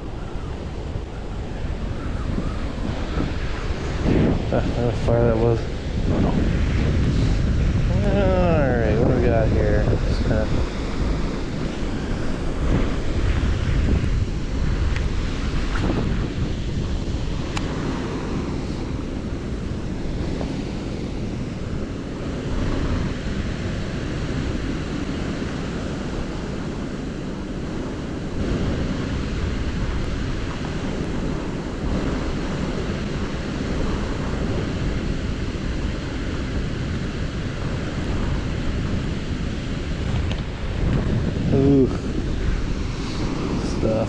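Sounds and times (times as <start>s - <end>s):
strong wind on microphone: 0.0s - 44.0s.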